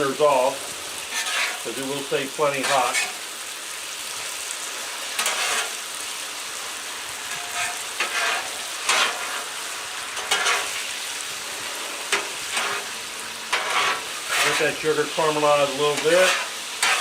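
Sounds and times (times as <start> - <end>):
spatula scraping griddle: 0.0 - 3.4, 4.0 - 17.0
chicken sizzling on a griddle: 0.0 - 17.0.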